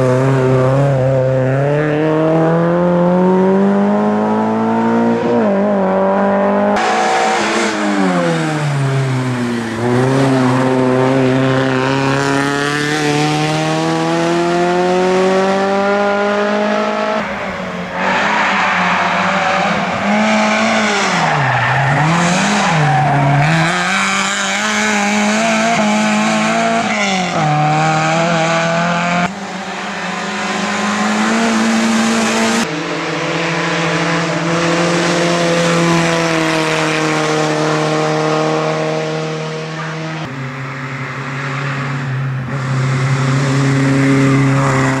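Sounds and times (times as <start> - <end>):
race car engines at high revs: 0.0 - 45.0.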